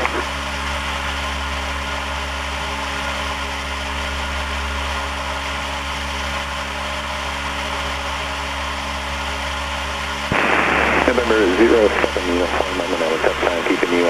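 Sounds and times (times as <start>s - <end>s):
airplane engine and propeller droning: 0.0s - 14.0s.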